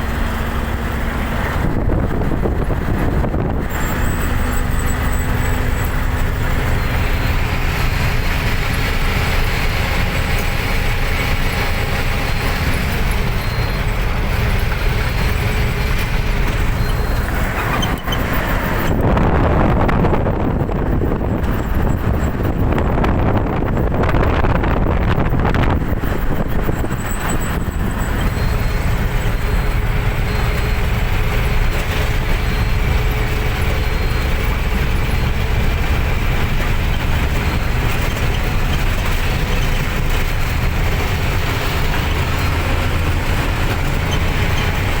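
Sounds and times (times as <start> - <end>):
vehicle engine rumble: 0.0 - 45.0.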